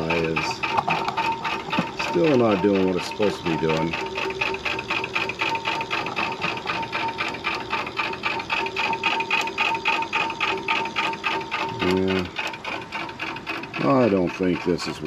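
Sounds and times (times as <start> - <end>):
pulsing motor whir: 0.0 - 15.0
steady hum: 0.0 - 15.0.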